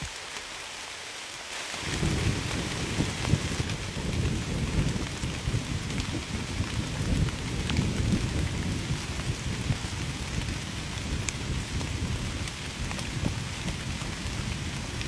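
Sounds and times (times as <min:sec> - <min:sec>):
heavy rain falling: 0:00.0 - 0:15.0
low rumble of thunder: 0:01.8 - 0:15.0.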